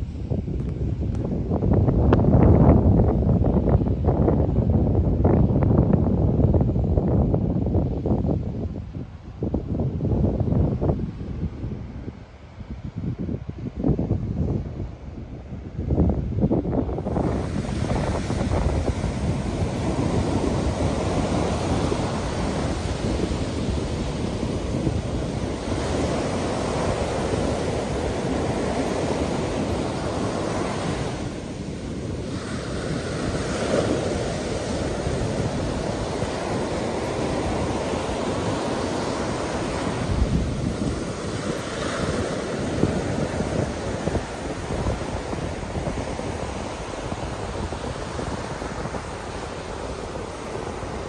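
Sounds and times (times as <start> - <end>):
surf washing up beach: 0.0 - 51.0
wind buffeting microphone: 0.0 - 51.0.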